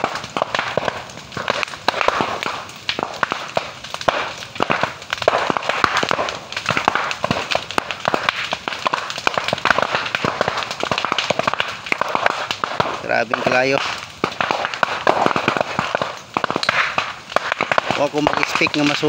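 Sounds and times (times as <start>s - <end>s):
bamboo fire crackling and popping: 0.0s - 19.0s.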